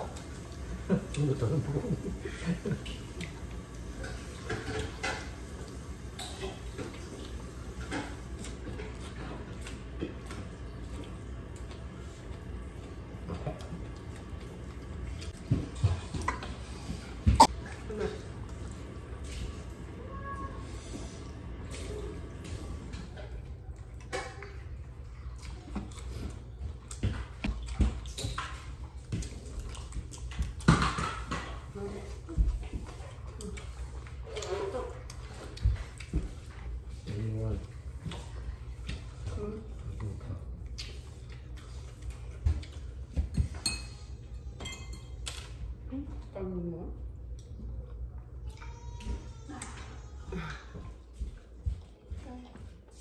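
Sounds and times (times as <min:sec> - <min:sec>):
people chewing and eating: 0:00.0 - 0:53.0.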